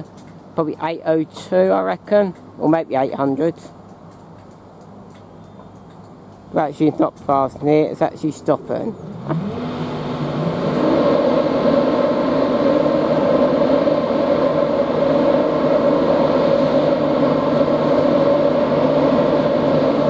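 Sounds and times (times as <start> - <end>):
train traction hum: 0.0 - 20.0.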